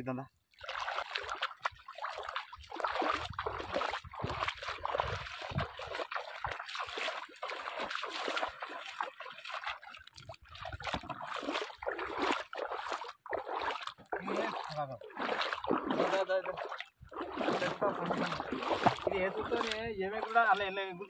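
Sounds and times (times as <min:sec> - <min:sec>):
bare feet splashing through water: 0:00.4 - 0:21.0.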